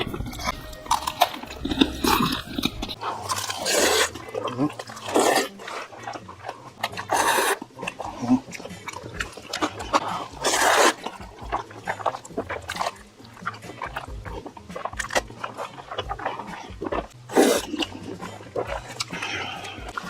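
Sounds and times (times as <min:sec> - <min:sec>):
wet chewing and mouth smacking: 0:00.0 - 0:20.0.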